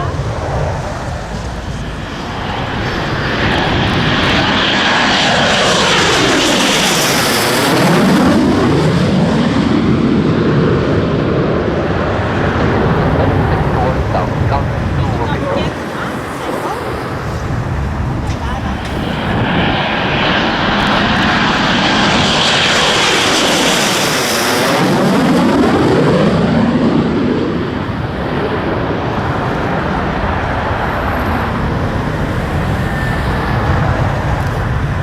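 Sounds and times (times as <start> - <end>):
jet passing overhead: 0.0 - 35.0.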